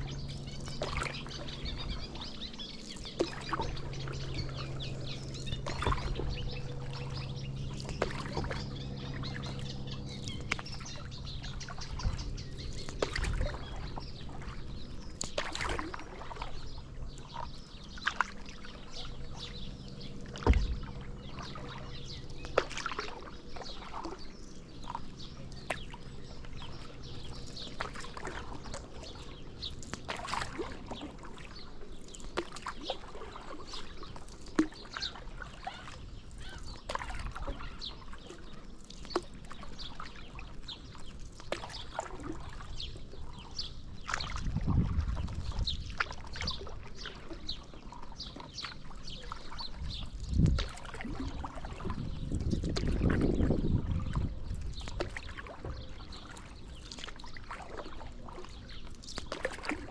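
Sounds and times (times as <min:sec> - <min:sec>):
steady low hum: 0:00.0 - 0:59.0
birds chirping: 0:00.0 - 0:59.9
paddle strokes splashing water: 0:00.0 - 0:59.9.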